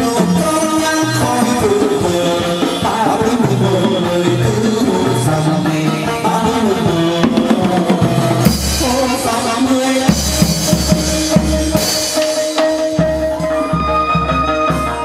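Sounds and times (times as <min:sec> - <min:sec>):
drums beating steady rhythm: 0:00.0 - 0:15.0.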